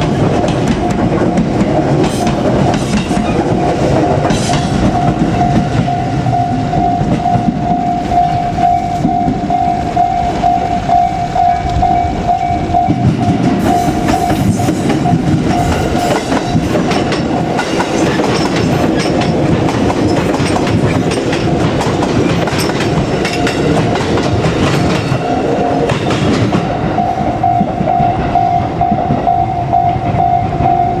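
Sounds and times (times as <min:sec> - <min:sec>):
train wheels clattering over rail joints: 0:00.0 - 0:10.0, 0:12.6 - 0:29.3
level crossing warning bell: 0:00.0 - 0:31.0.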